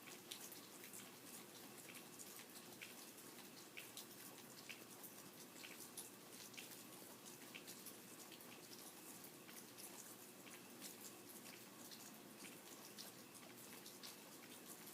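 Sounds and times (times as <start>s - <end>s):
raindrops ticking: 0.0s - 14.9s
soft rain hiss: 0.0s - 14.9s.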